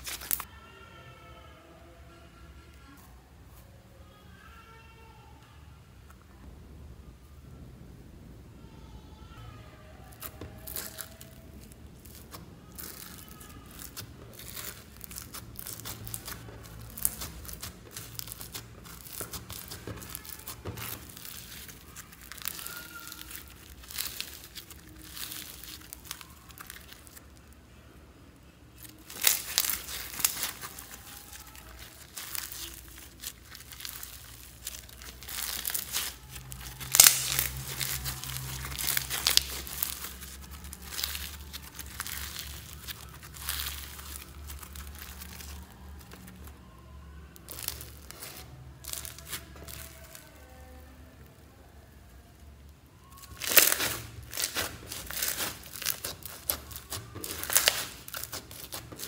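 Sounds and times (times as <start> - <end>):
foam beads crackling and crunching: 0.0 - 0.5, 9.4 - 27.8, 28.6 - 59.0.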